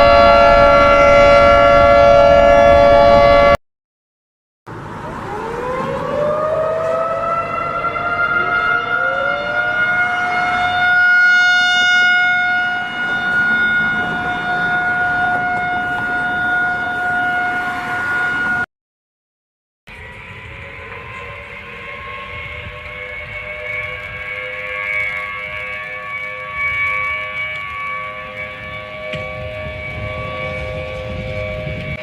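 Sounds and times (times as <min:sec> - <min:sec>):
warning siren wailing: 0:00.0 - 0:03.6, 0:04.7 - 0:18.7, 0:19.9 - 0:32.0.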